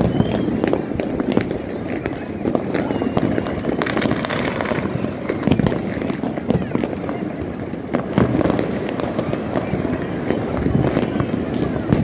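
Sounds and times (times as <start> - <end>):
firework whistles: 0.0 - 12.0
fireworks crackling and banging: 0.0 - 12.0.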